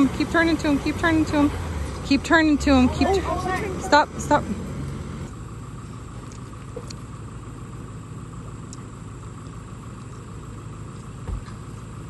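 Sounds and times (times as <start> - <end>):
engines idling: 0.0 - 12.0.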